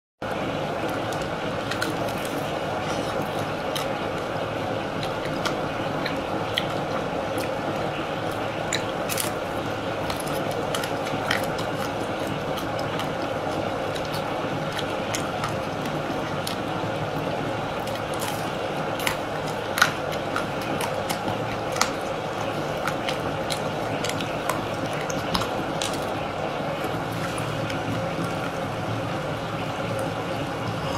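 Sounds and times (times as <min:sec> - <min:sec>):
steady background noise: 0:00.2 - 0:30.9
crunching frozen ice cream bar: 0:00.3 - 0:30.9.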